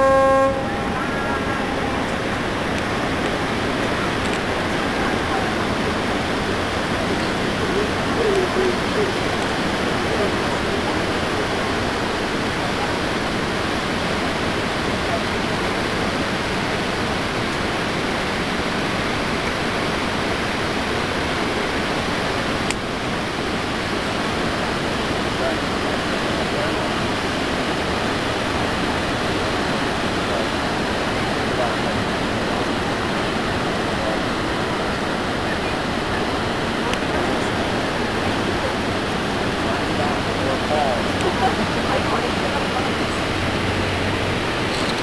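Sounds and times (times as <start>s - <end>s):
rush of falling water: 0.0s - 45.0s.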